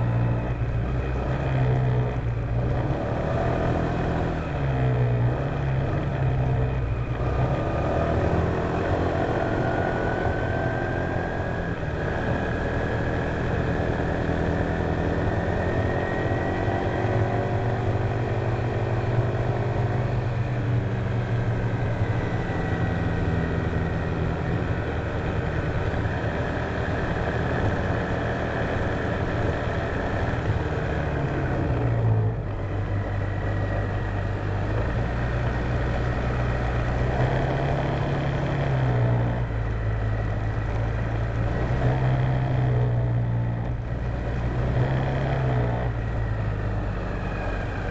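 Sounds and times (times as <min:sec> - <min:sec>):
engine whine: 0:00.0 - 0:47.9
road noise: 0:00.0 - 0:47.9
wind: 0:00.0 - 0:47.9.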